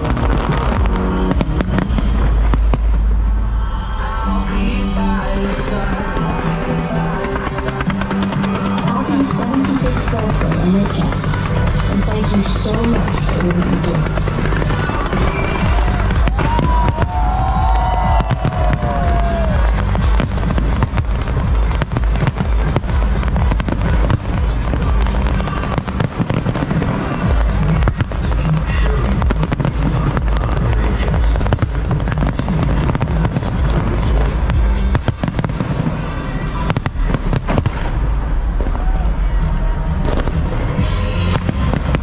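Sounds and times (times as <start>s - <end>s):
fireworks bangs and crackles: 0.0s - 3.5s, 4.7s - 42.0s
loud music: 0.0s - 42.0s.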